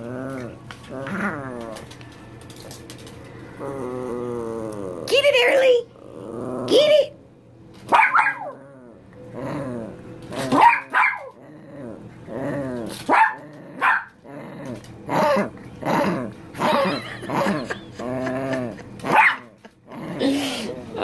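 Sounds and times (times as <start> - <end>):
small dog growling and yipping: 0.0 - 2.0, 3.4 - 7.1, 7.9 - 21.0.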